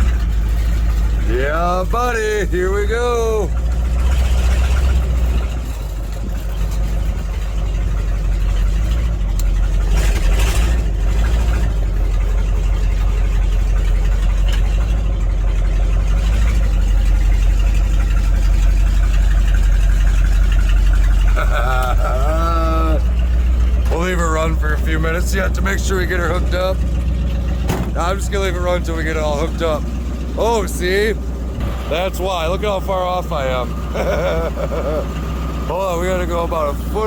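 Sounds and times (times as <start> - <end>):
engine running with loose exhaust: 0.0 - 37.0.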